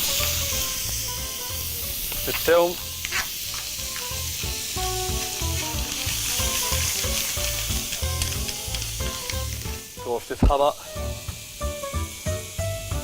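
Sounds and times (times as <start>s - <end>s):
background music with low beat: 0.0s - 13.0s
seafood sizzling in hot oil: 0.0s - 13.0s.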